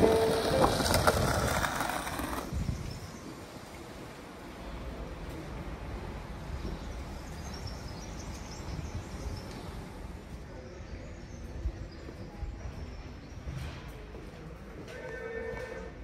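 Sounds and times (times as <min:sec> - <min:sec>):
low street rumble: 0:00.0 - 0:16.0.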